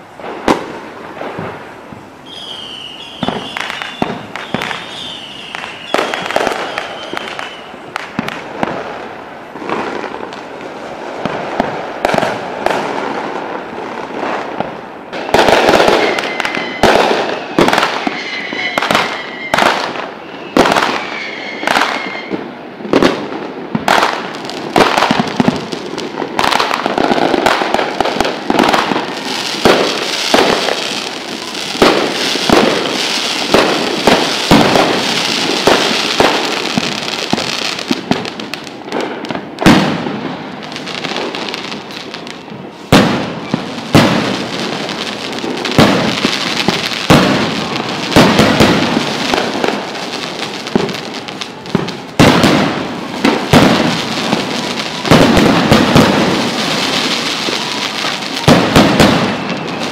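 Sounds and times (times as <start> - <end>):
fireworks booming: 0.0 - 59.9
fireworks crackling: 0.0 - 59.9.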